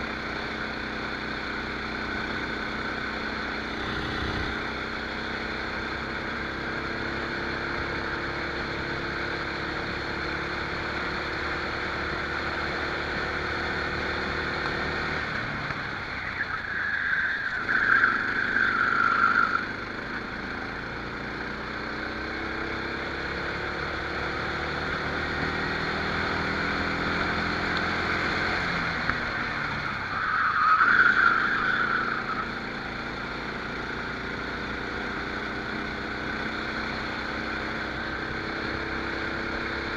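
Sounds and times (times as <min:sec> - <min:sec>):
kart engine accelerating: 0:00.0 - 0:39.9.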